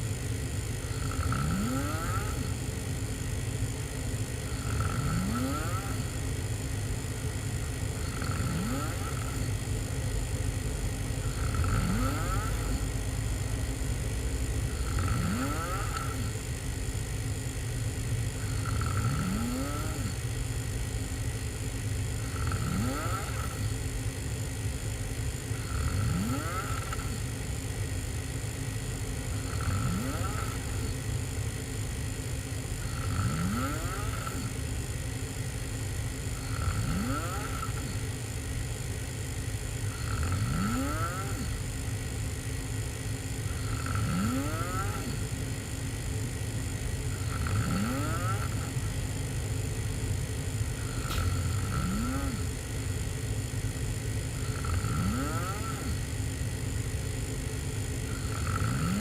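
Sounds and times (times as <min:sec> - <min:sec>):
person snoring hard: 0:00.0 - 0:20.8, 0:21.4 - 0:24.2, 0:25.1 - 0:31.6, 0:32.4 - 0:34.9, 0:36.1 - 0:41.8, 0:42.9 - 0:49.3, 0:50.0 - 0:56.4, 0:57.9 - 0:59.0
steady low hum: 0:00.0 - 0:59.0.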